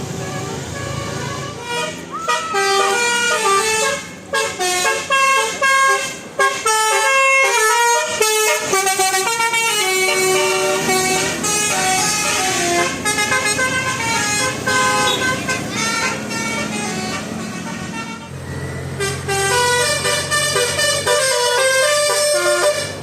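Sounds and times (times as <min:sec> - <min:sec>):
bus horn playing melody: 0:00.0 - 0:23.0.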